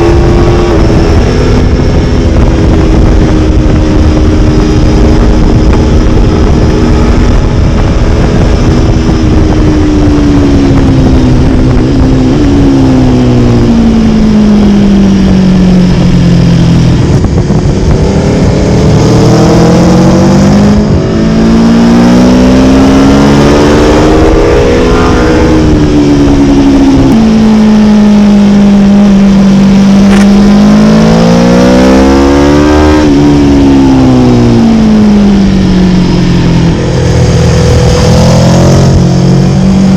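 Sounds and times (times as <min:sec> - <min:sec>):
motorcycle engine accelerating: 0:00.0 - 0:39.9
steady rushing noise: 0:00.0 - 0:39.9.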